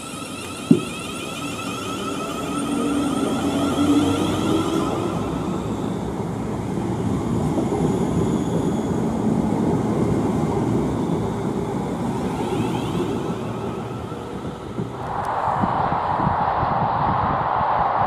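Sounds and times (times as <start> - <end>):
train wheels rumbling on rail: 0.0 - 15.1.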